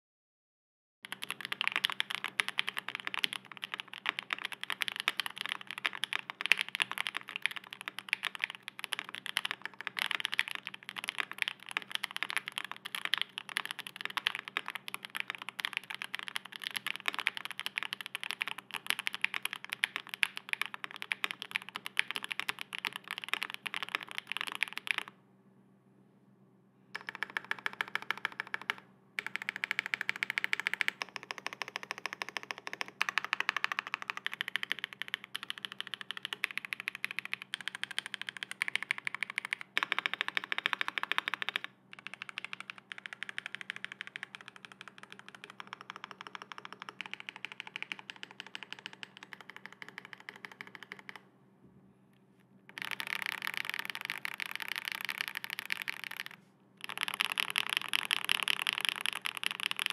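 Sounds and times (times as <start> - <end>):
fast typing on mechanical keyboard: 1.1 - 25.1, 27.0 - 51.2, 52.7 - 59.9.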